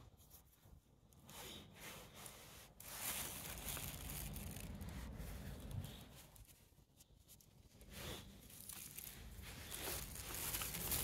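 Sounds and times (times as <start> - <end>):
soft scratchy sounds: 0.0 - 11.0
paper towel crinkling: 1.5 - 11.0.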